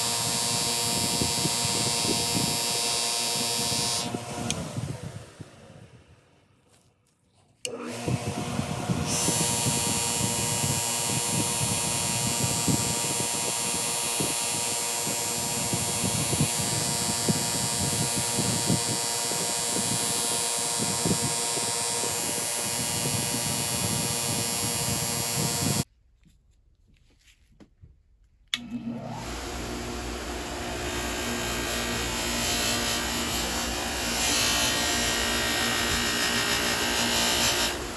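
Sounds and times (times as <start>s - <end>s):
small power tool whining: 0.0s - 6.6s, 7.6s - 25.9s, 28.6s - 37.9s.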